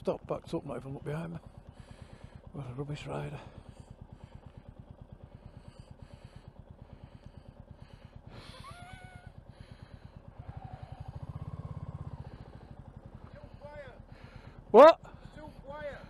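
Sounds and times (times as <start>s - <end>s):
motorcycle engine ticking over: 0.0s - 16.0s.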